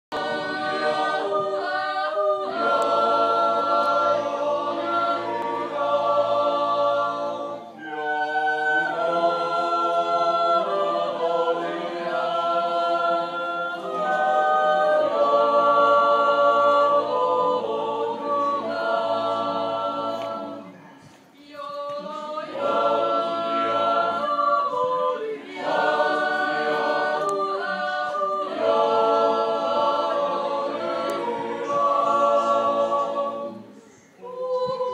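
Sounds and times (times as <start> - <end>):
men's choir yodeling a cappella: 0.1 - 20.8, 21.5 - 34.9.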